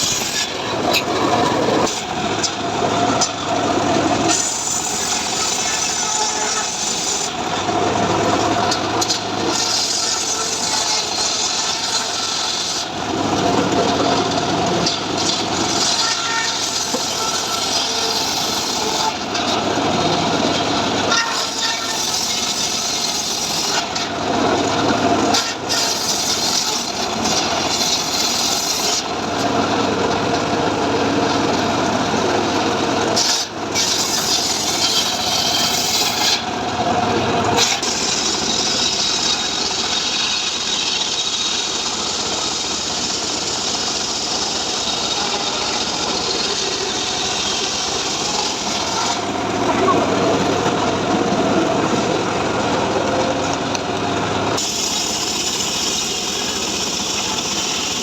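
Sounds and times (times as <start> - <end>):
engine-driven saw cutting wood: 0.0 - 58.0.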